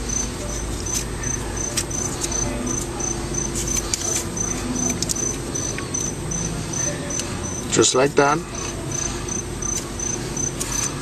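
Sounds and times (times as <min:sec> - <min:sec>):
cricket chirping: 0:00.0 - 0:11.0
low steady hum: 0:00.0 - 0:11.0.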